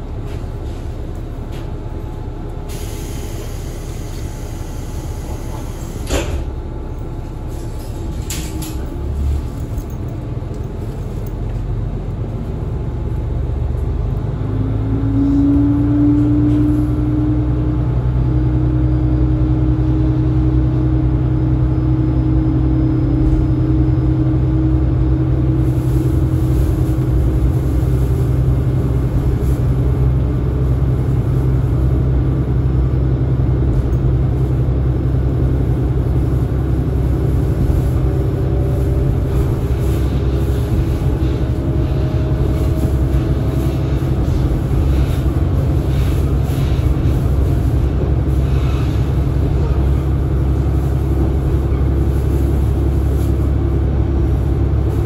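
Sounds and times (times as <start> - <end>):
diesel railcar engine drone: 0.0 - 55.0.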